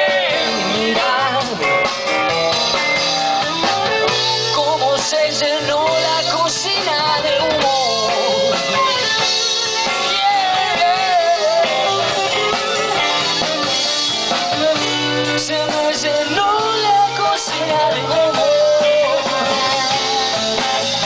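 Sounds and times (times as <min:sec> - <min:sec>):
bending lead guitar melody: 0:00.0 - 0:21.0
live rock band: 0:00.0 - 0:21.0.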